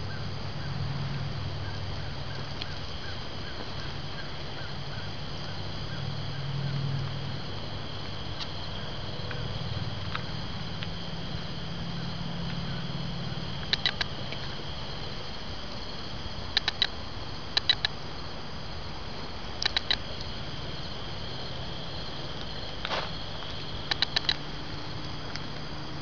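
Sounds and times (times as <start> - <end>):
crickets chirping: 0.0 - 26.0
low hum and hiss: 0.0 - 26.0.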